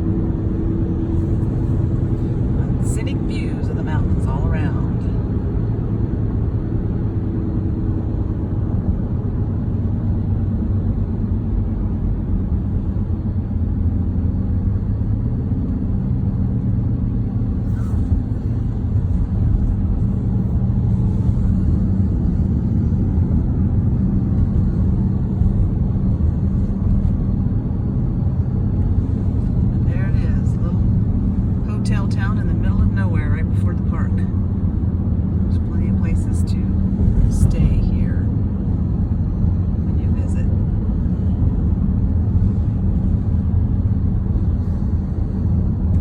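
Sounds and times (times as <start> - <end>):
road and engine rumble: 0.0 - 46.0.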